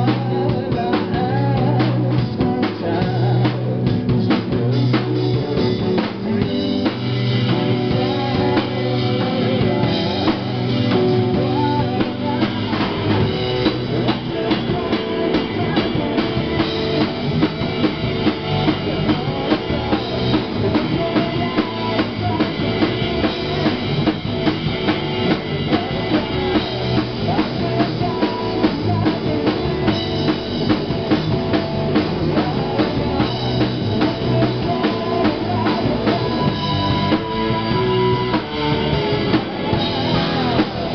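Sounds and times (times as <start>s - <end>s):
drum kit beat: 0.0s - 40.9s
electric guitar: 0.0s - 40.9s.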